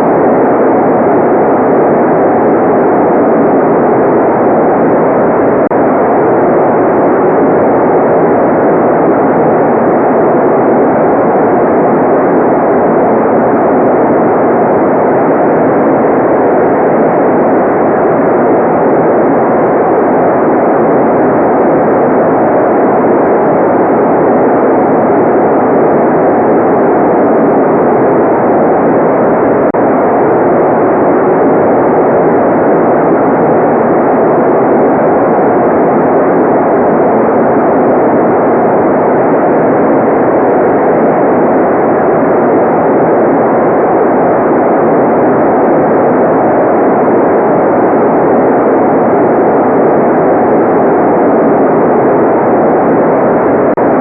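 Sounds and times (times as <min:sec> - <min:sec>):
steady white noise: 0:00.0 - 0:54.0.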